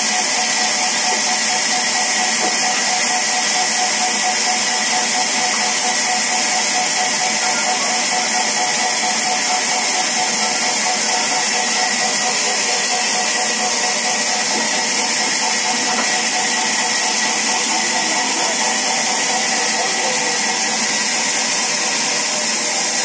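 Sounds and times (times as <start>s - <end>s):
sawmill machinery running: 0.0s - 23.0s.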